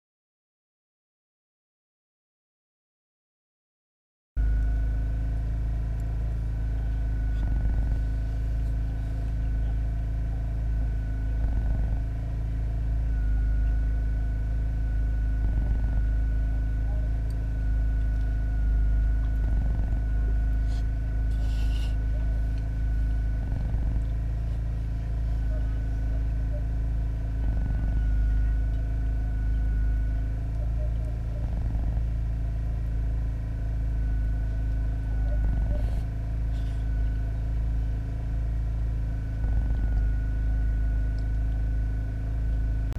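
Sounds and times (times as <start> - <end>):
motor humming: 4.4 - 42.9
thin whine: 4.4 - 42.9.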